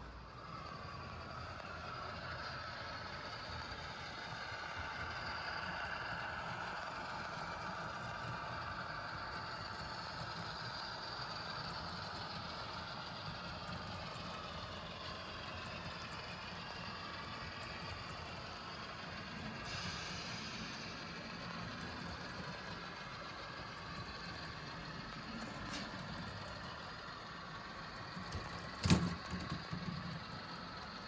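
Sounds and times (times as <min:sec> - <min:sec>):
model train motor and wheels: 0:00.0 - 0:31.0.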